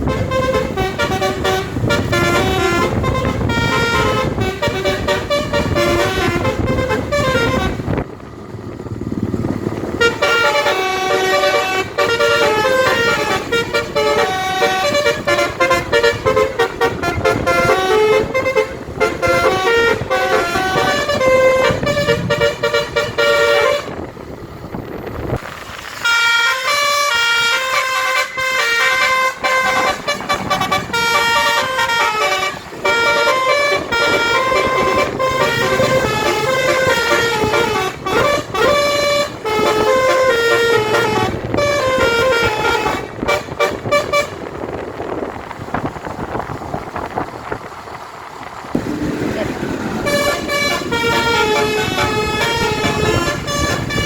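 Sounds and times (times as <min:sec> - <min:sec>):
musical bus air horn: 0:00.0 - 0:08.0, 0:09.9 - 0:24.1, 0:26.0 - 0:45.2, 0:48.8 - 0:54.0
bus engine: 0:00.0 - 0:54.0
road noise: 0:00.0 - 0:54.0.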